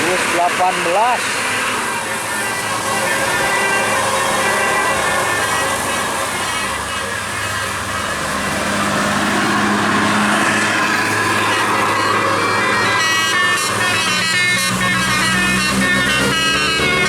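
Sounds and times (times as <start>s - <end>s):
bus engine passing: 0.0s - 17.0s
road traffic noise: 0.0s - 17.0s.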